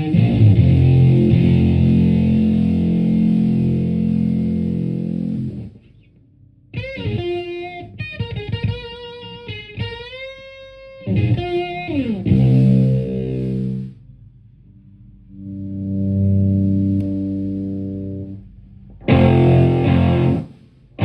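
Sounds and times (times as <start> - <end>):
fuzz electric guitar: 0.0 - 6.1, 6.7 - 14.0, 15.3 - 21.0.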